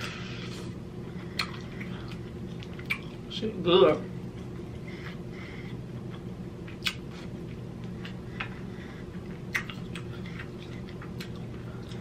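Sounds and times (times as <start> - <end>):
wet chewing and mouth sounds: 0.0 - 3.3, 4.2 - 12.0
steady low hum: 0.0 - 12.0.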